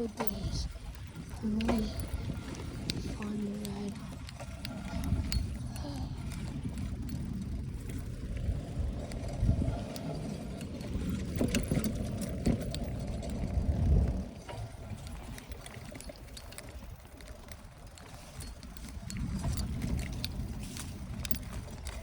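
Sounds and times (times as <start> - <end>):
bicycle rolling on dirt road: 0.0 - 22.0
rattling clicks: 0.0 - 22.0.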